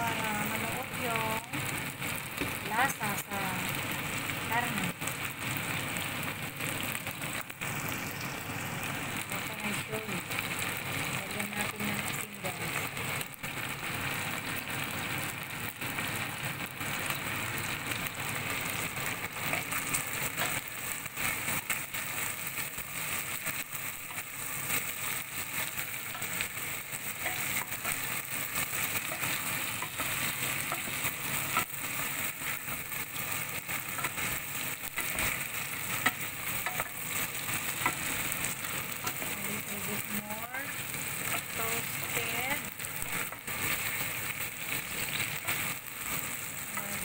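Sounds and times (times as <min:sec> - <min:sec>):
wings frying in hot oil: 0:00.0 - 0:47.0.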